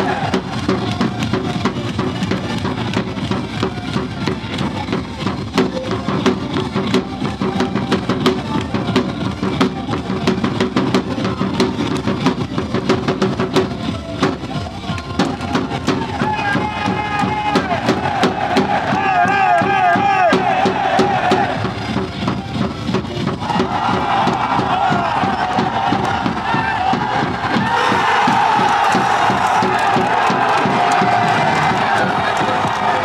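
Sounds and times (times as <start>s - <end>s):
cheer song with fast drum beat: 0.0s - 33.0s.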